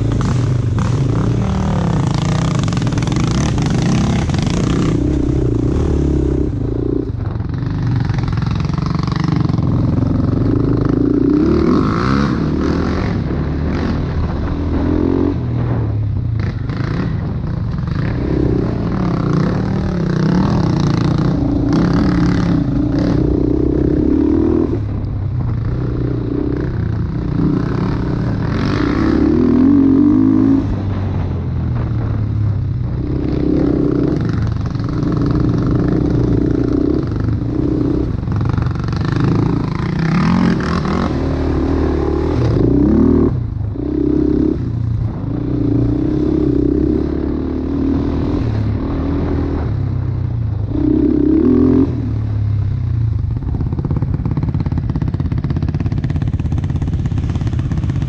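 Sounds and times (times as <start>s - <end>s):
atv engine revving: 0.0s - 32.2s, 32.9s - 58.0s.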